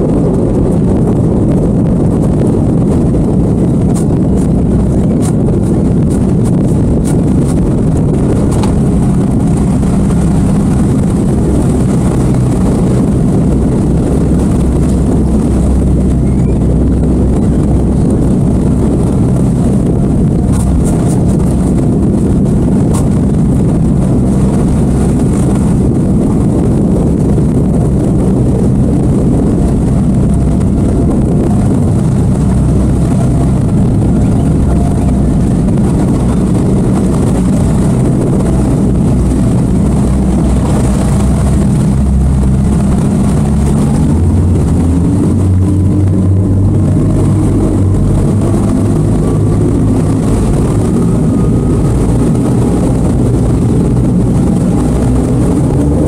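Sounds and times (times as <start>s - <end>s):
outboard motors running: 0.0s - 56.0s
water rushing past hull: 0.0s - 56.0s
wind buffeting microphone: 0.0s - 56.0s.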